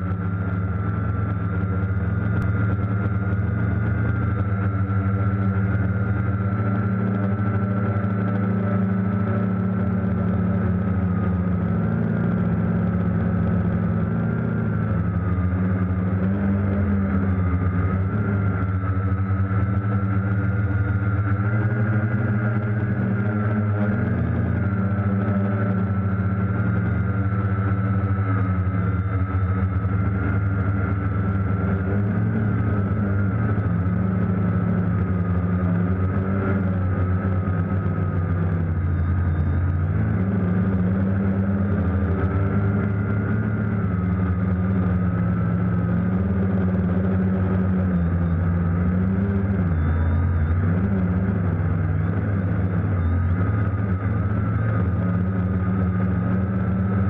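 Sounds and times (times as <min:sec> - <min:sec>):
drone motors and propellers whining: 0:00.0 - 0:57.0.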